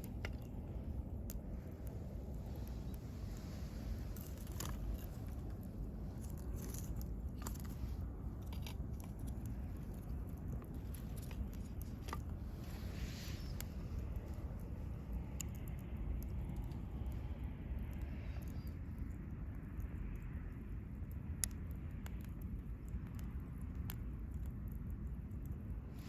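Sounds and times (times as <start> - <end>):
bonfire crackling and popping: 0.0 - 25.8
low steady rumble: 0.0 - 26.0.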